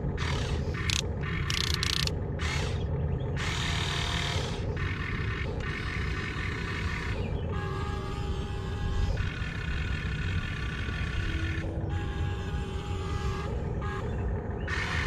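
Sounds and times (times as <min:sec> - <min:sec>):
electric gear motors whining: 0:00.0 - 0:15.0.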